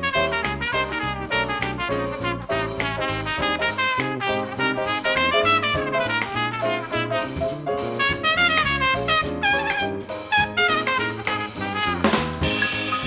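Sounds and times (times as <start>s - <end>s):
trumpet solo: 0.0s - 12.6s
big band playing swing jazz: 0.0s - 13.0s.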